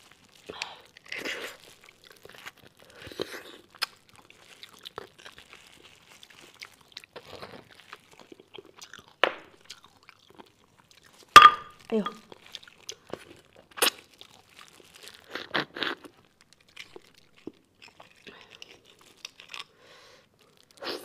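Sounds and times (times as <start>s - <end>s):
wet chewing and mouth smacks: 0.0s - 20.8s.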